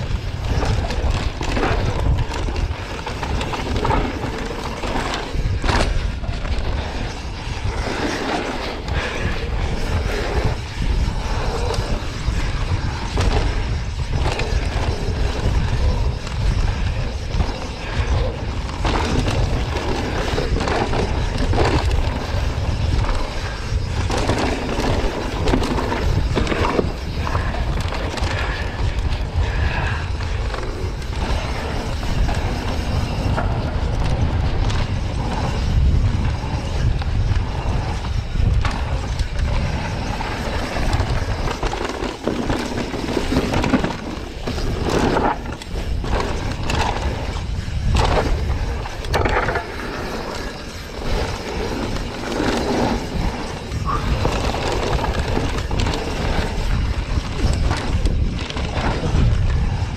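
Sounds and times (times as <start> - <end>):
bike knocking and rattling: 0.0 - 59.9
tyres rolling over gravel: 0.0 - 59.9
wind roar on microphone: 0.0 - 59.9.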